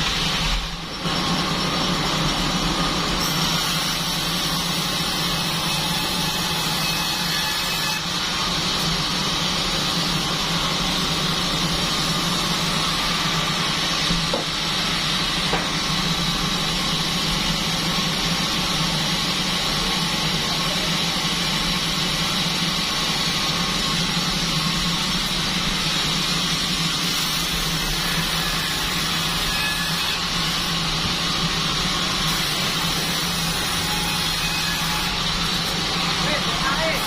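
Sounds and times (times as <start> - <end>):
band sawmill running: 0.0 - 37.0.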